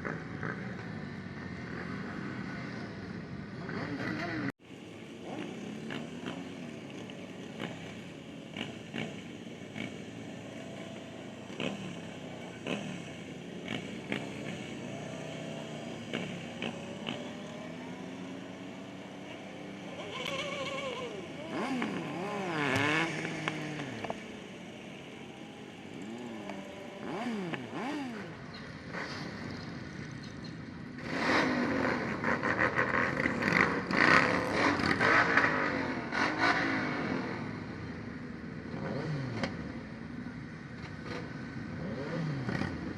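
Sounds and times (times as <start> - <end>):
cars passing: 0.0 - 42.9
motorcycles revving and passing: 0.0 - 42.9.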